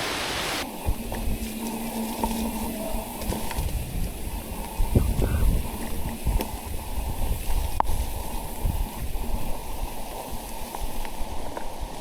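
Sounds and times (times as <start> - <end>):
rain rushing: 0.0 - 12.0.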